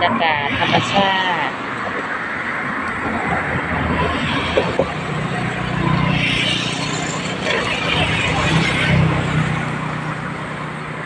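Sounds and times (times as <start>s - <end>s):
traffic engine hum: 0.0s - 11.0s.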